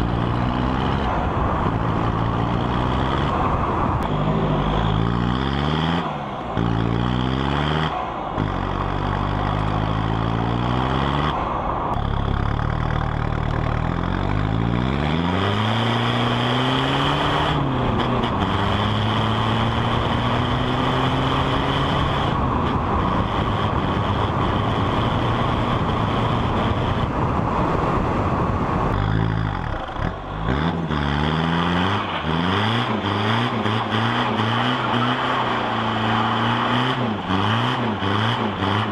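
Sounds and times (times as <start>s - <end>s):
road and wind noise: 0.0s - 38.9s
vehicle engine accelerating: 0.0s - 38.9s.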